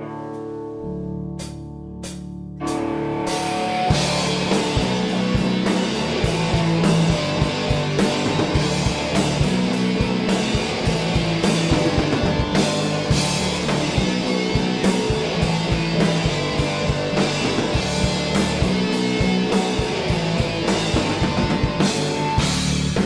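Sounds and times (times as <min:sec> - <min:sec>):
bass guitar: 0:00.0 - 0:23.0
electric guitars: 0:00.0 - 0:23.0
drum kit beat: 0:01.4 - 0:23.0.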